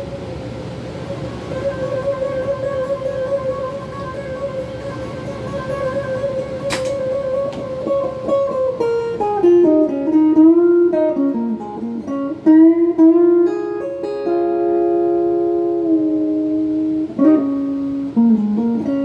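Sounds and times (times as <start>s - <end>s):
overdriven electric guitar lead: 0.0s - 19.0s.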